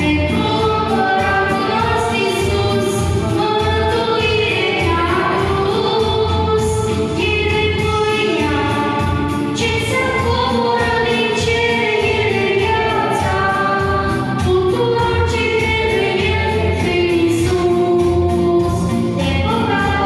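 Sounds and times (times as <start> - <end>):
electronic keyboard with beat: 0.0 - 20.0.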